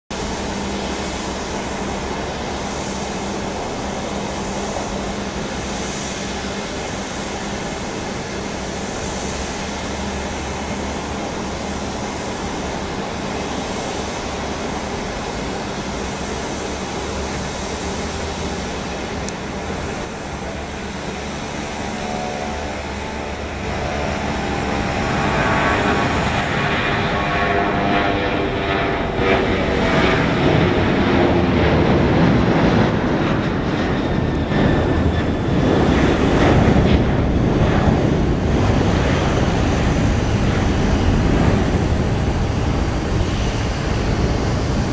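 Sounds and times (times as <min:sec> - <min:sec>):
distant jet engines rumbling: 0:00.1 - 0:44.9.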